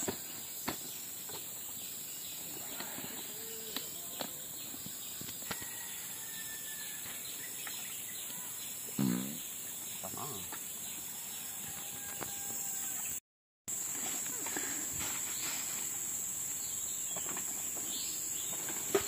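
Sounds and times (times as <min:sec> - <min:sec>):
insect drone: 0:00.0 - 0:19.0.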